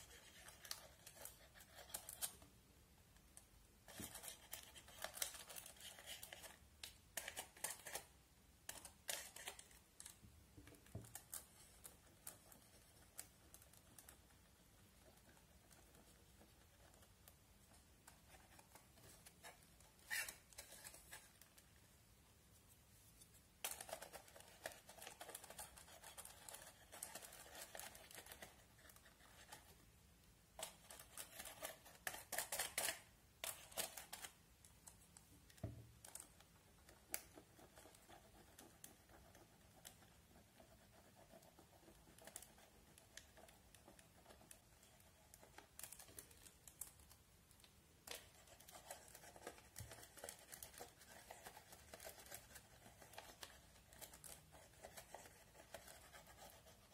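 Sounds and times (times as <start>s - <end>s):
plastic spatula scratching eyeshadow: 0.0s - 2.4s, 3.9s - 21.7s, 23.2s - 29.8s, 30.6s - 47.2s, 48.1s - 56.9s.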